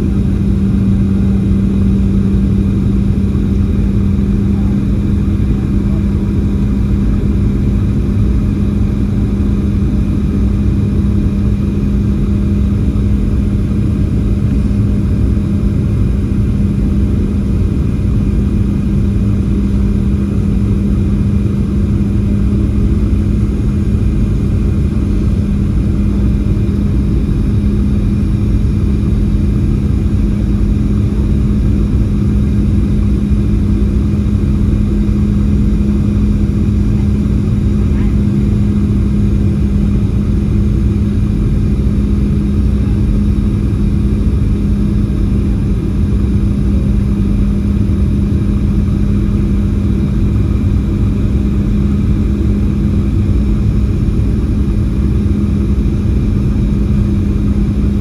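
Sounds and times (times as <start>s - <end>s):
constant low hum: 0.0s - 58.0s
jet engine drone: 0.0s - 58.0s.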